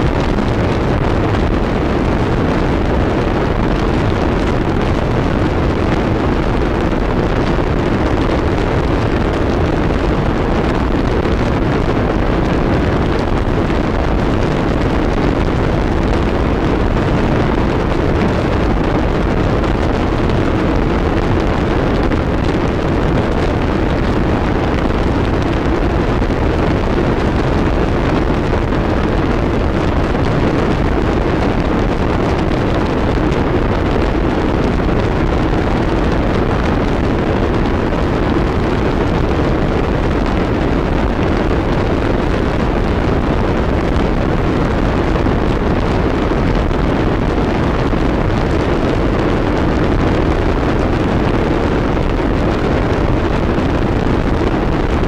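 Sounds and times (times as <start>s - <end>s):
dense distorted static noise: 0.0s - 55.0s.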